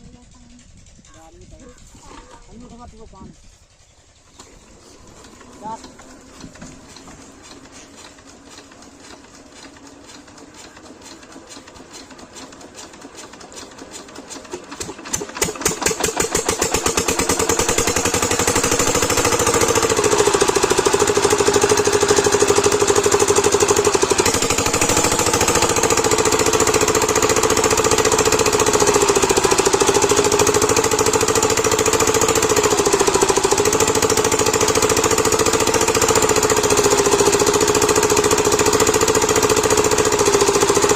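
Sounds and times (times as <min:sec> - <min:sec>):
diesel pump engine knocking: 0:00.0 - 0:40.9.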